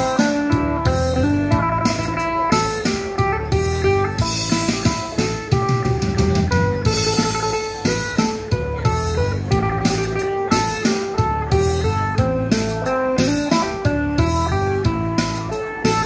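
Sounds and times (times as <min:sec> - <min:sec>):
electric lute plucked melody: 0:00.0 - 0:16.0.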